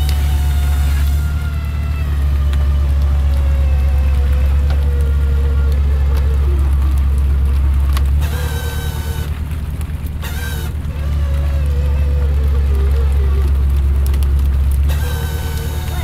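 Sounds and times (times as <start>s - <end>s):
boat engine low drone: 0.0s - 16.0s.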